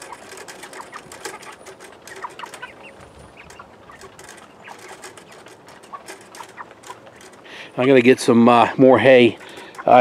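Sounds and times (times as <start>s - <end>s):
chickens clucking and cheeping: 0.0s - 10.0s.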